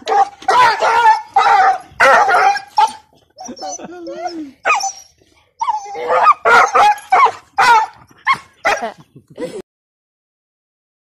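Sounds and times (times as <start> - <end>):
dog whining and yelping: 0.0 - 8.9.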